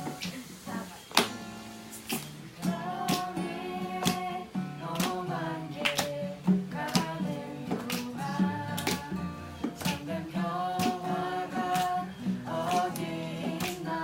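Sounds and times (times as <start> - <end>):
voices singing a hymn: 0.0 - 1.5, 2.4 - 14.0
strummed acoustic guitar: 0.0 - 14.0.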